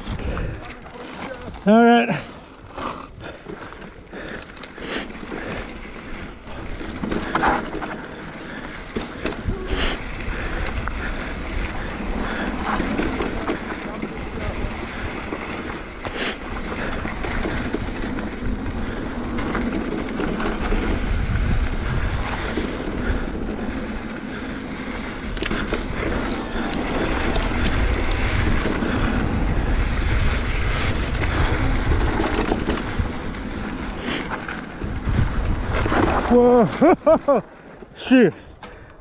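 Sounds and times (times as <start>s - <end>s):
bike rattling over bumps: 0.0s - 39.0s
tyres rumbling over dirt: 0.0s - 39.0s.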